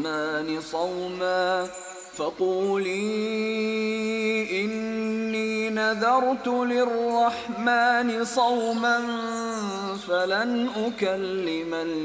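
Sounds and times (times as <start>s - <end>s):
person chanting recitation: 0.0s - 12.0s.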